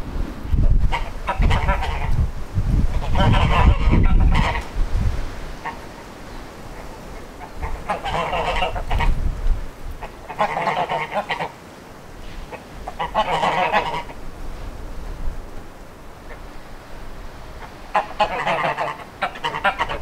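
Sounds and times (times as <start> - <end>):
wind rumble on microphone: 0.0 - 10.9, 12.1 - 18.8
geese honking: 0.6 - 14.3, 16.1 - 20.0.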